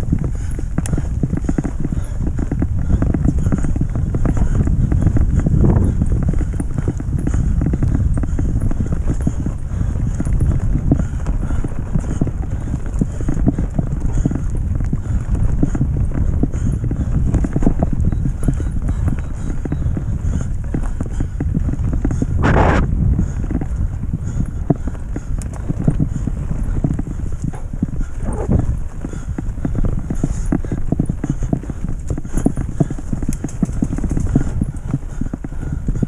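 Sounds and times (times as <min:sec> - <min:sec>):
bike rattling and clicking: 0:00.0 - 0:36.0.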